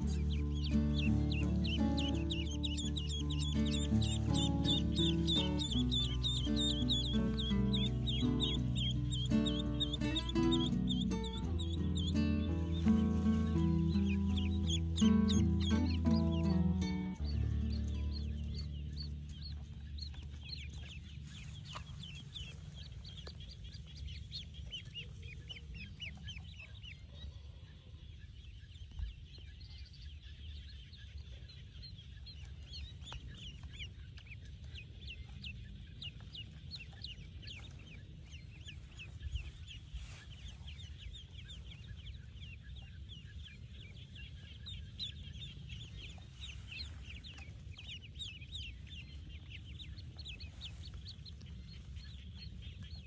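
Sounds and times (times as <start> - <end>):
low steady rumble: 0.0 - 26.9, 31.9 - 53.0
ducklings peeping: 0.0 - 53.0.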